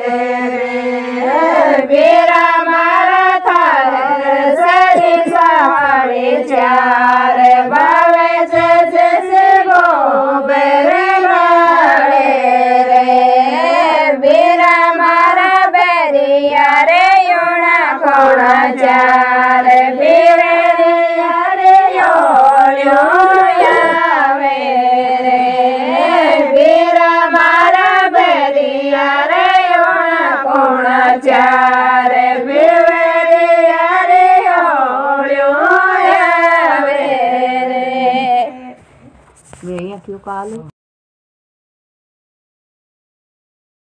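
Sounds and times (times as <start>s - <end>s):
women singing without instruments: 0.0s - 38.8s.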